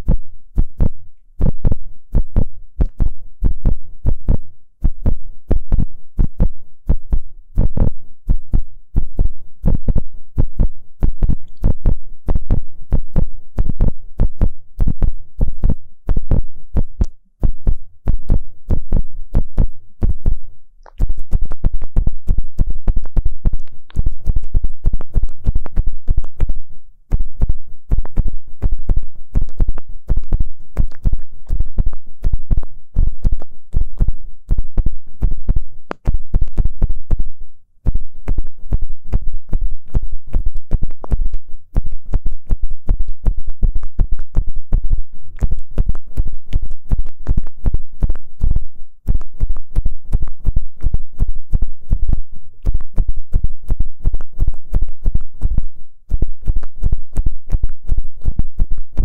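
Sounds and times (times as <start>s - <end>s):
low thumps: 0.0s - 59.0s
ear pick scratching inside ear: 10.6s - 59.0s.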